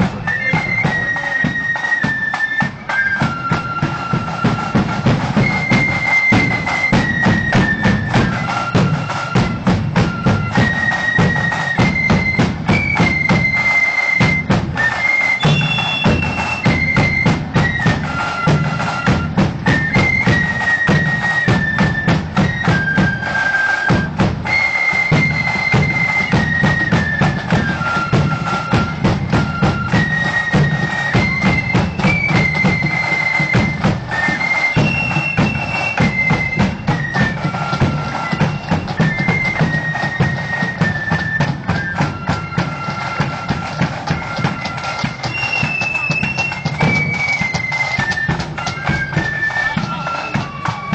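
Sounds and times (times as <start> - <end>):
flute melody: 0.0 - 50.9
snare drum rolls: 0.0 - 50.9.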